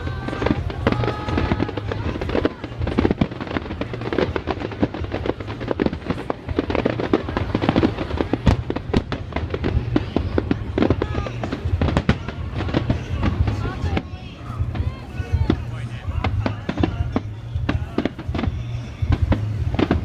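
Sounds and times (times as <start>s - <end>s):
fireworks bangs and crackles: 0.0s - 20.0s
low rumble: 0.0s - 20.0s.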